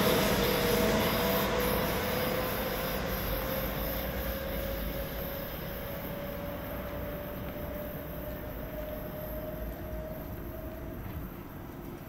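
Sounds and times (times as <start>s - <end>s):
steady train whine: 0.0s - 12.0s
train rumbling away: 0.0s - 12.0s.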